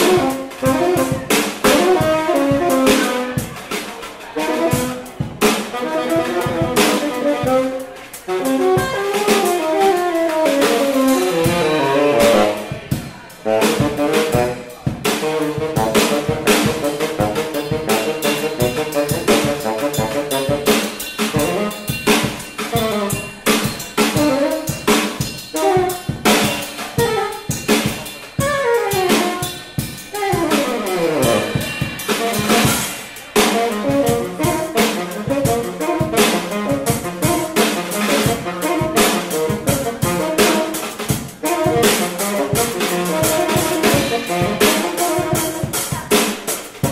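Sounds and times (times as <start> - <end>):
saxophone line: 0.0 - 3.7, 4.4 - 46.9
drum kit with cymbal hits: 0.0 - 46.9
jazz band playing: 0.0 - 46.9.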